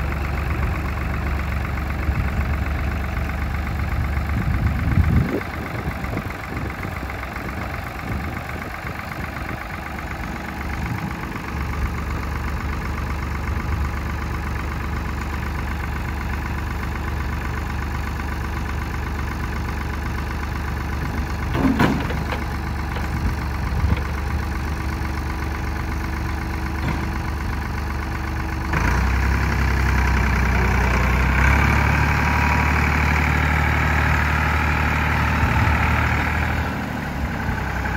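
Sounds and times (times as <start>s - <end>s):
tractor diesel engine idling: 0.0s - 37.9s.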